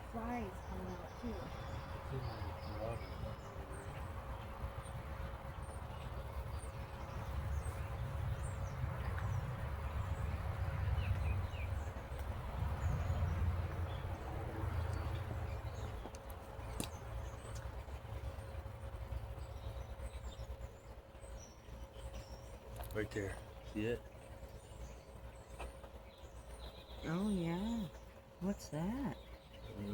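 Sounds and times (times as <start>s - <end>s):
faint steady hum: 0.0s - 29.9s
low uneven rumble: 0.0s - 29.9s.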